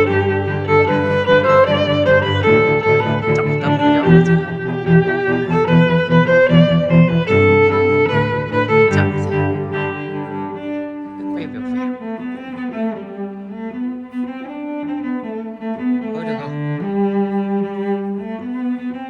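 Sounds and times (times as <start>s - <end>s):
slow bowed string music: 0.0s - 19.0s.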